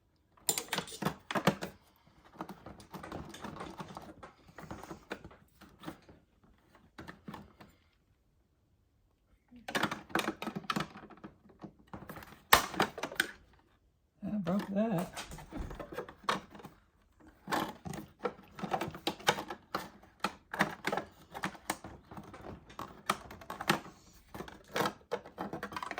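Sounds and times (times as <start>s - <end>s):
plastic parts clicking and rattling: 0.3s - 7.7s, 9.6s - 13.7s, 14.4s - 25.9s.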